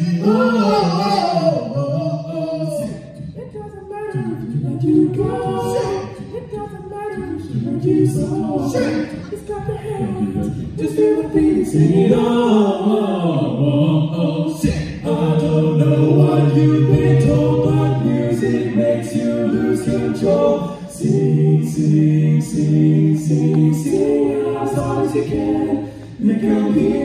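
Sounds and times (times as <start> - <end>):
men singing a cappella: 4.1 - 27.0.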